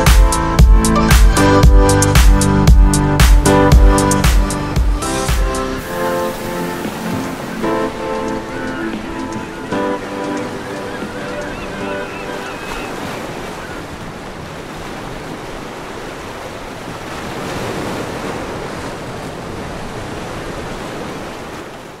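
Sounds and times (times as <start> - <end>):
waves washing on shore: 3.2 - 22.0.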